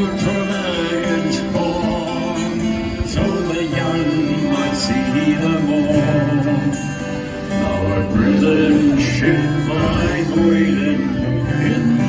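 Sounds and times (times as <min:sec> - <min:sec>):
choir singing a sea shanty: 0:00.0 - 0:12.0
guitar accompaniment: 0:00.0 - 0:12.0.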